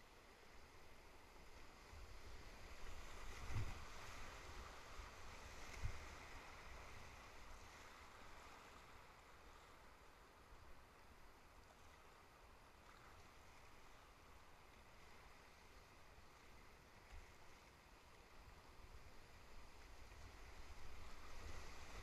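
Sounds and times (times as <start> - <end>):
rush of whitewater rapid: 0.0 - 22.0.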